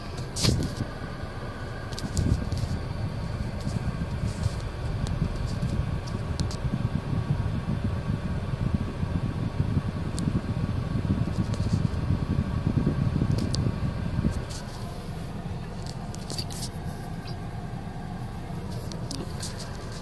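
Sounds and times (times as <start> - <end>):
low rumble inside a car: 0.0 - 20.0.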